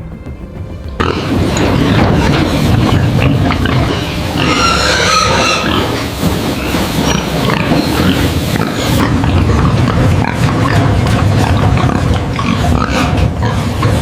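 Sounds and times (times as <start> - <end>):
pig squealing: 1.0 - 14.0
pigs grunting: 1.0 - 14.0.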